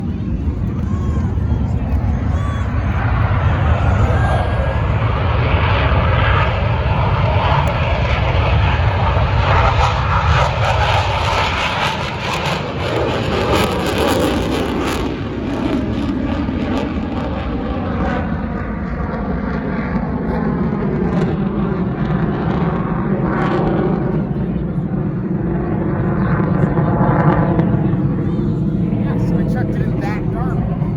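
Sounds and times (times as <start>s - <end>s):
jet engine taking off: 0.0s - 30.9s.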